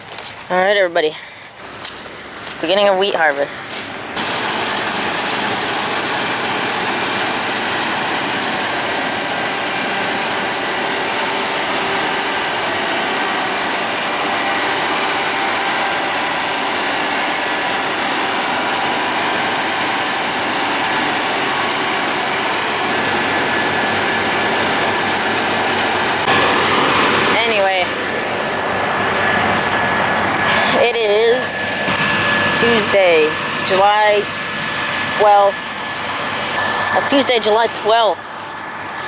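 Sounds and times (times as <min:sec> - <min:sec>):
heavy machinery running: 0:00.0 - 0:39.0.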